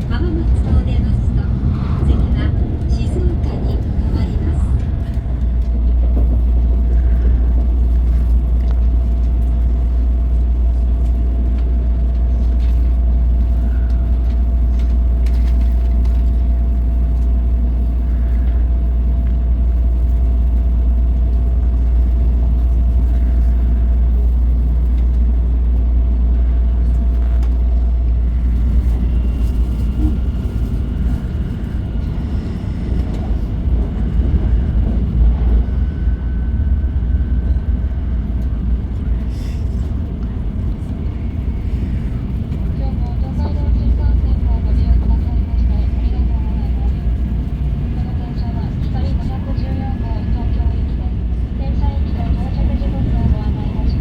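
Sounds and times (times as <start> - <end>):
train running at speed: 0.0 - 54.0
faint whine: 0.8 - 54.0.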